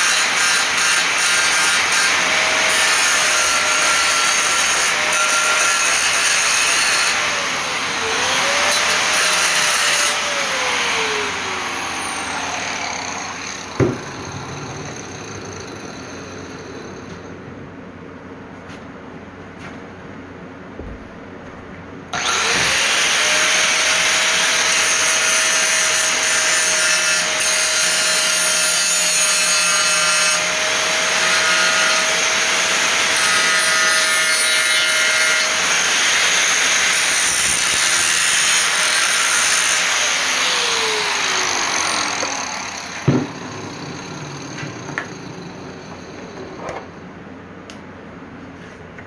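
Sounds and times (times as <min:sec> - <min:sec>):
angle grinder grinding steel: 0:00.0 - 0:17.0, 0:22.2 - 0:46.2.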